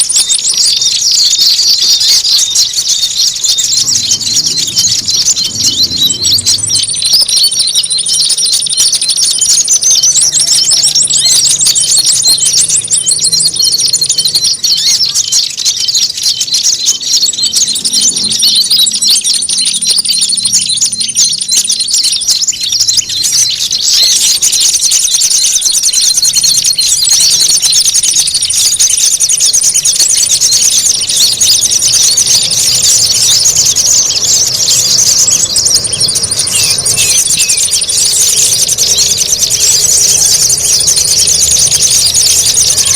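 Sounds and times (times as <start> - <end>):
small songbirds chattering: 0.0 - 42.9
thin high bird trill: 0.0 - 42.9.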